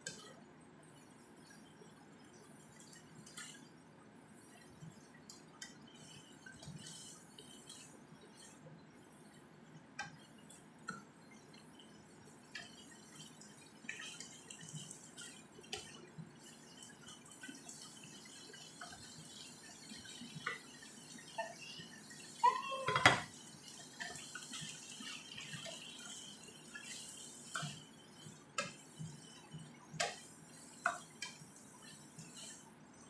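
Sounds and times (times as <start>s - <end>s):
chicken frying in oil: 0.0s - 33.0s.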